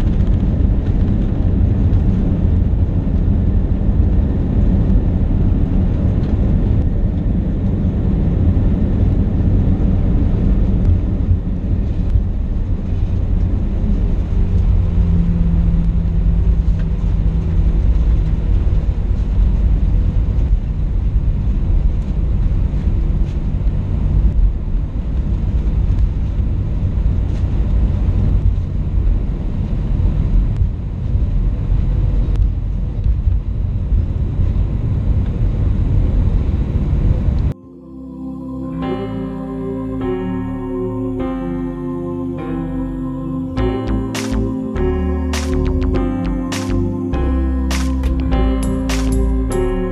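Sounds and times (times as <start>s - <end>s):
faint hum: 0.0s - 49.9s
jet engines and wheels rumbling: 0.0s - 49.9s.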